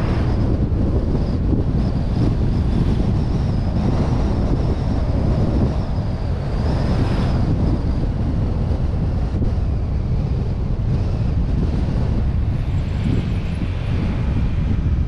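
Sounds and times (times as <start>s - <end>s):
road and engine rumble: 0.0s - 15.0s
wind buffeting microphone: 0.0s - 15.0s.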